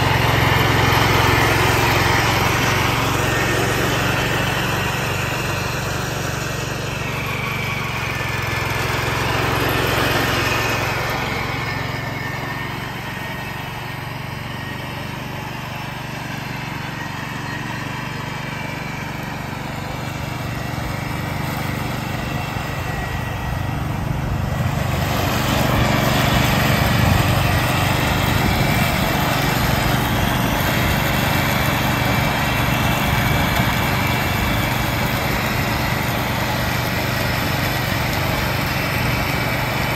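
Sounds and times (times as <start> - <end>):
mower cutting leaves: 0.0 - 39.9
tractor engine running: 0.0 - 39.9.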